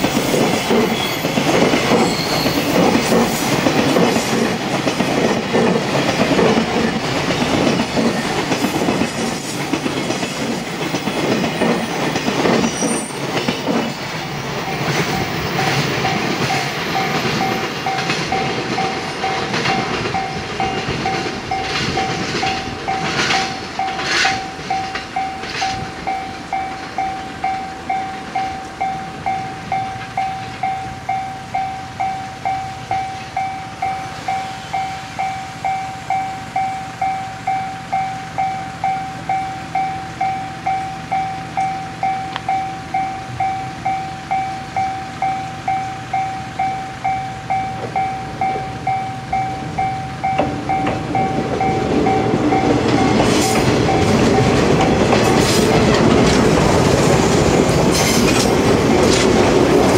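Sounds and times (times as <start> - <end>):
railway warning bell ringing: 0.0 - 59.9.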